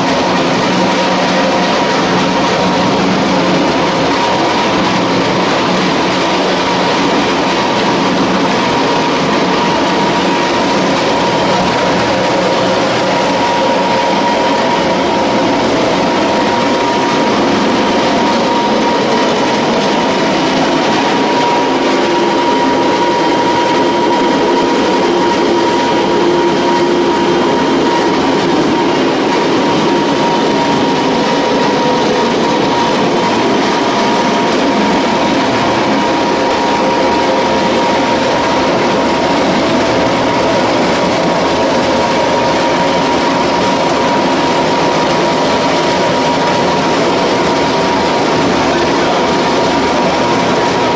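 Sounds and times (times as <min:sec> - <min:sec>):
pellet mill machine running: 0:00.0 - 0:50.9.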